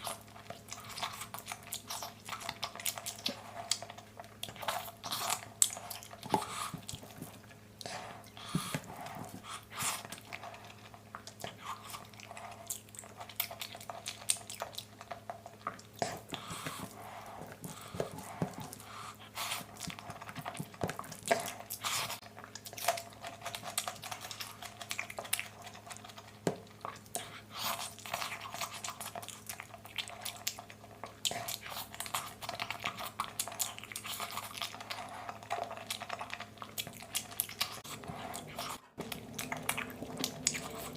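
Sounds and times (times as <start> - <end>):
close-up chewing crunches: 0.0 - 40.9.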